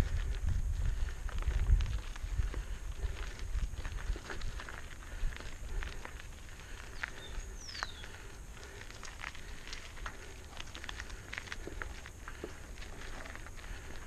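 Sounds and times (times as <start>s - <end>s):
bike tyres rolling over gravel: 0.0s - 14.0s.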